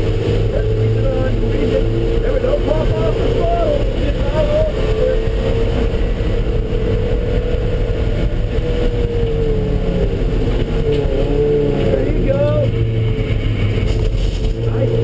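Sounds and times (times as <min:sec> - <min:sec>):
engine revving high: 0:00.0 - 0:15.0
road noise rumble: 0:00.0 - 0:15.0.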